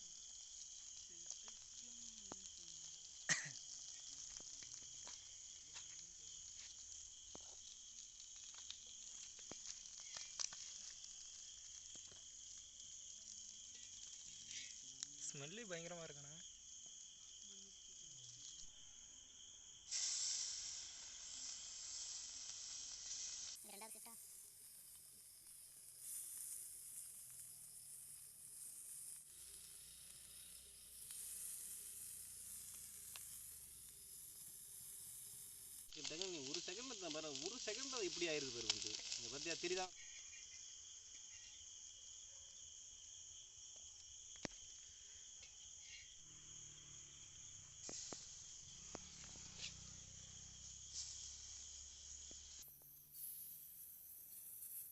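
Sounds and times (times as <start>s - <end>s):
food sizzling in hot oil: 0.0s - 54.9s
insects chirring: 0.0s - 54.9s.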